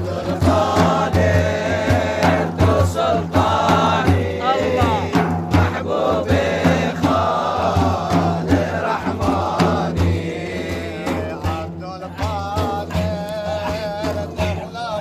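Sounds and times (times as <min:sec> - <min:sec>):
man singing a chant: 0:00.0 - 0:15.0
percussion beat: 0:00.0 - 0:15.0.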